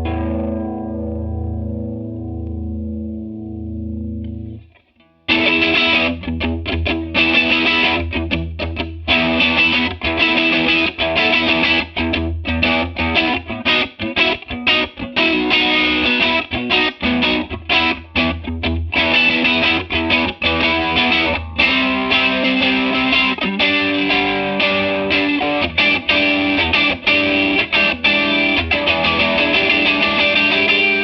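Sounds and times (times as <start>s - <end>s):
clean chorus guitar chord: 0.0s - 4.7s, 5.3s - 8.5s, 9.1s - 31.0s
distorted guitar chord riff: 0.0s - 31.0s.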